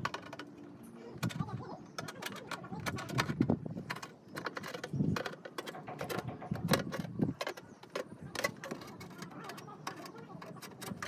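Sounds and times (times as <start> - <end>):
metal gutter clicking and knocking: 0.0 - 0.6, 1.2 - 11.0.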